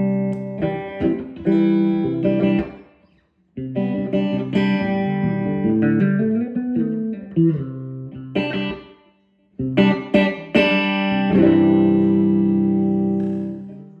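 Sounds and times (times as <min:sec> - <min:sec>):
electric guitar notes and chords: 0:00.0 - 0:08.9, 0:09.6 - 0:14.0.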